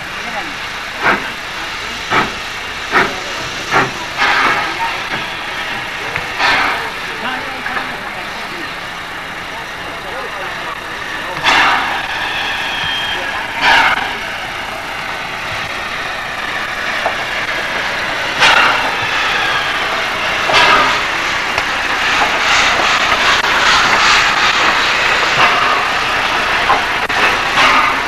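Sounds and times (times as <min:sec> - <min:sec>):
steam locomotive running slowly: 0:00.0 - 0:28.0.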